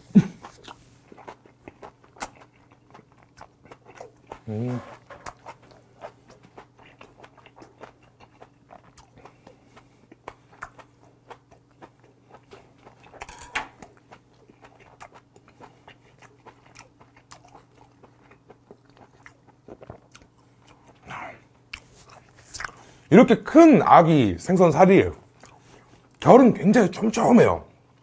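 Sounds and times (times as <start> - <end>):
faint steady hum: 0.0 - 28.0
person chewing with wet smacks: 0.2 - 23.0, 25.3 - 26.3.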